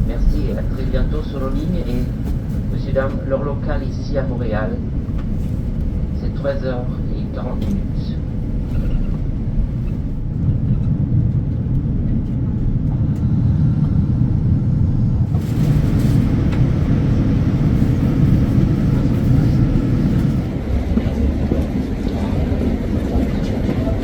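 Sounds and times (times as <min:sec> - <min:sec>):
airplane cabin rumble and hiss: 0:00.0 - 0:24.0.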